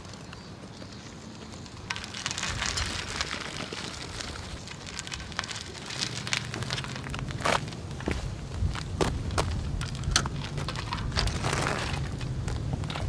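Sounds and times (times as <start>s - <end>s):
bicycle tyres crunching over gravel: 0.0s - 13.0s.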